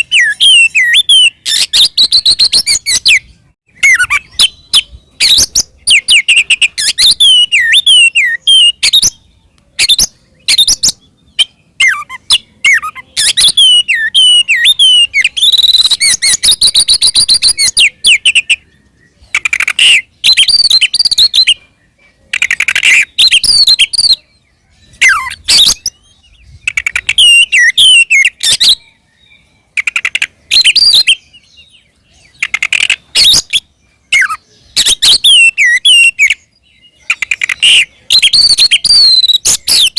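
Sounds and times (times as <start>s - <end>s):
bird harsh chattering: 0.0s - 9.2s, 9.8s - 18.6s, 19.2s - 21.6s, 22.2s - 24.2s, 25.0s - 28.8s, 29.7s - 31.2s, 32.2s - 39.9s
bird song with whistled phrases: 0.0s - 39.9s.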